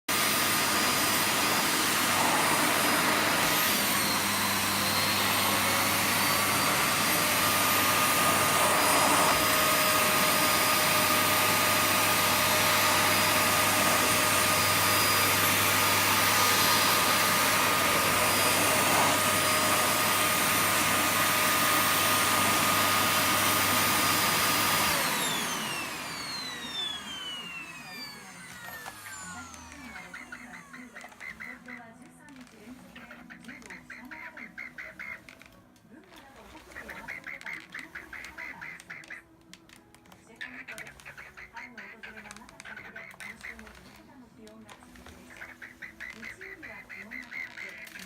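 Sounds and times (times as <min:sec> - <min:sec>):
vacuum cleaner running: 0:00.0 - 0:35.5, 0:40.7 - 0:48.0.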